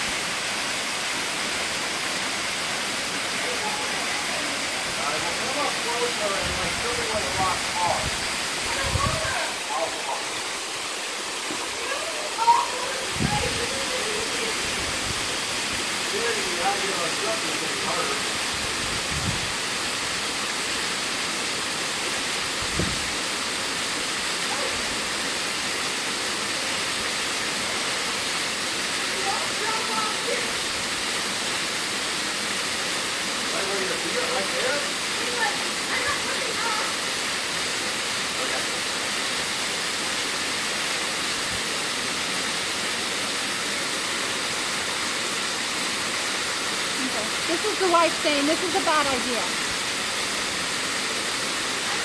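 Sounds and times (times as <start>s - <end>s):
waterfall pouring into a pool: 0.0s - 52.0s.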